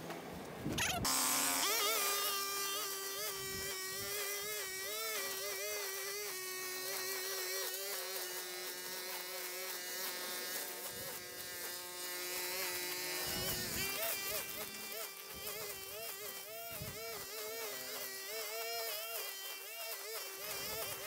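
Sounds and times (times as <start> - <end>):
small motor buzzing whine: 0.0 - 21.0.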